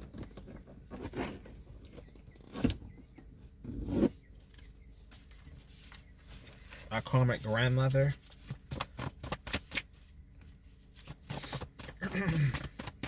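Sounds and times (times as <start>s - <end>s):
rustling handling sounds: 0.0s - 13.0s.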